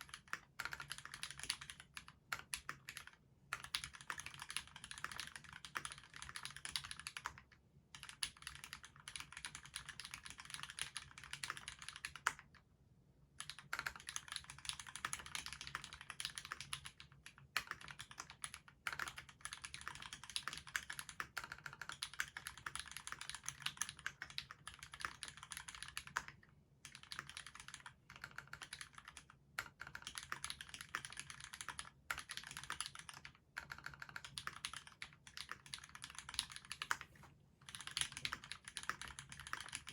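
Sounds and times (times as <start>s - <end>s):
fast typing on mechanical keyboard: 0.0s - 12.6s, 13.4s - 39.9s.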